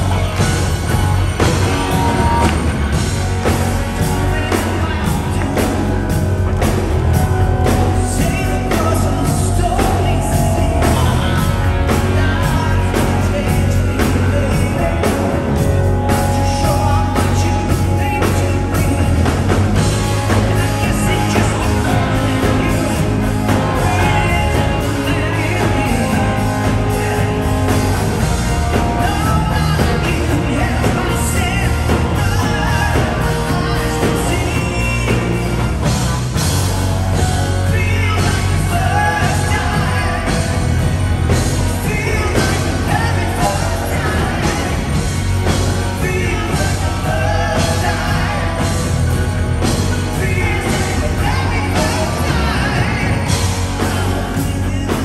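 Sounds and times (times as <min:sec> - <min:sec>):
bass guitar: 0:00.0 - 0:55.0
drums: 0:00.0 - 0:55.0
electric guitars: 0:00.0 - 0:55.0
man singing: 0:00.0 - 0:55.0.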